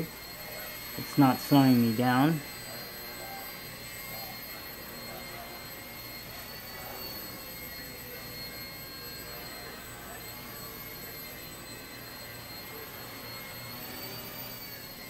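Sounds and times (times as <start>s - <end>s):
rc helicopter whine: 0.0s - 15.0s.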